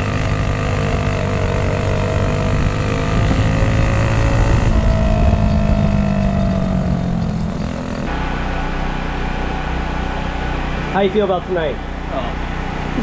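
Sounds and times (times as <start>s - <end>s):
engines running: 0.0s - 13.0s.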